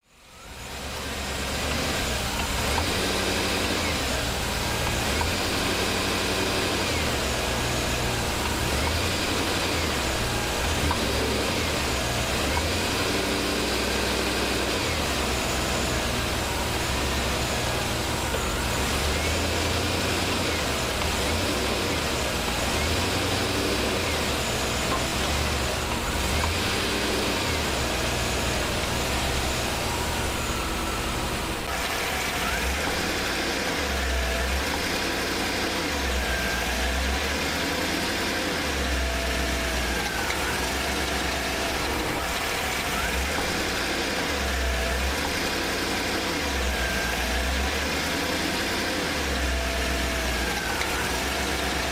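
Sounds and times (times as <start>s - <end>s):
engine revving: 0.0s - 51.9s.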